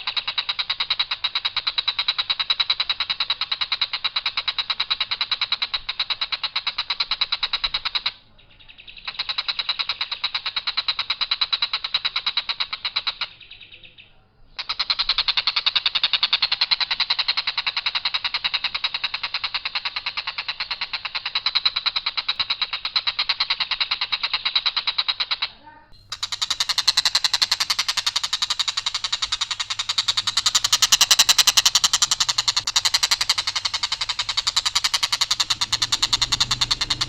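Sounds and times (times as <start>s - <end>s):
kingfisher rattling call: 0.0s - 13.8s, 14.6s - 37.0s.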